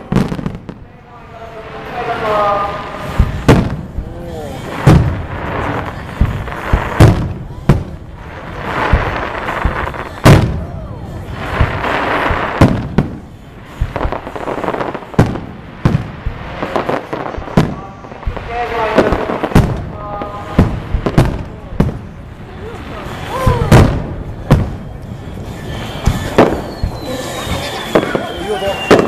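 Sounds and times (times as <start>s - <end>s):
firework crackling: 0.0s - 29.0s
firework shells booming: 2.9s - 22.2s, 23.0s - 29.0s.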